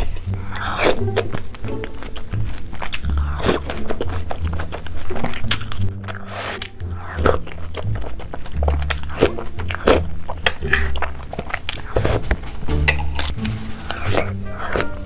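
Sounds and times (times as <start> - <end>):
background music with bass pulse: 0.0 - 15.0
mouth clicks and smacks: 0.0 - 15.0
wet eating and chewing: 0.0 - 15.0.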